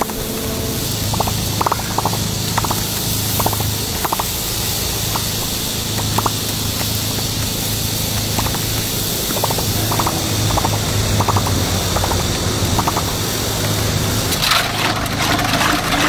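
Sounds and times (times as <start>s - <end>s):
oil sizzling in a hot pan: 0.0s - 16.0s
small crackling pops: 1.1s - 14.6s.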